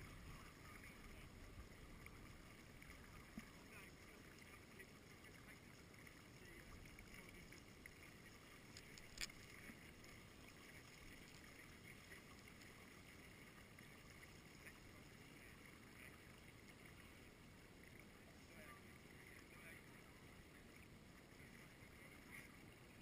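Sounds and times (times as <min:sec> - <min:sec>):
faint water lapping: 0:00.0 - 0:23.0.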